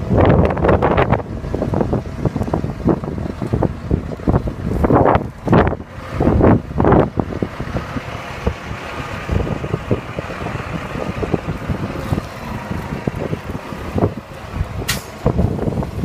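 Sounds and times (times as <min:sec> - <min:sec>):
tractor engine running: 0:00.0 - 0:16.0
wind buffeting microphone: 0:00.0 - 0:16.0.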